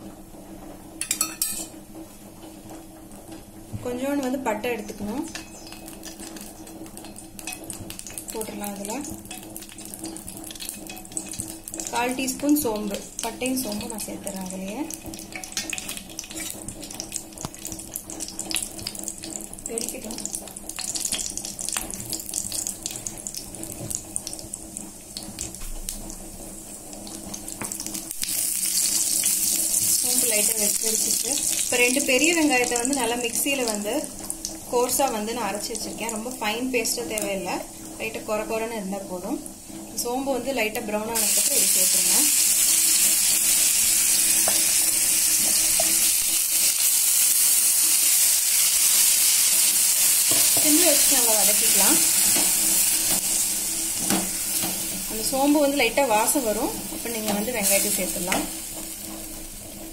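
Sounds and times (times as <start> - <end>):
spices sizzling in hot oil: 1.0 - 1.7, 3.2 - 59.9.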